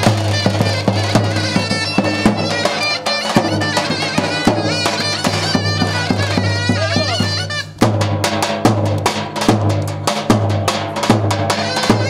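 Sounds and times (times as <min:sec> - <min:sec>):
bass drum beat: 0:00.0 - 0:12.0
shawm playing shrill melody: 0:00.0 - 0:12.0.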